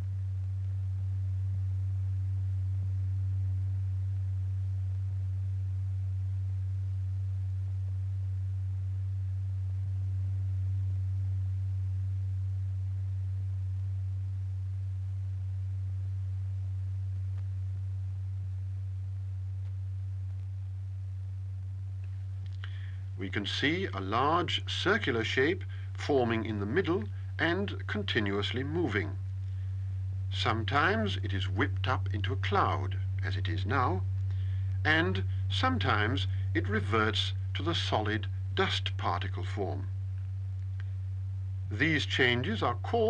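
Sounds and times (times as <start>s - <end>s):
steady low pure tone: 0.0s - 43.0s.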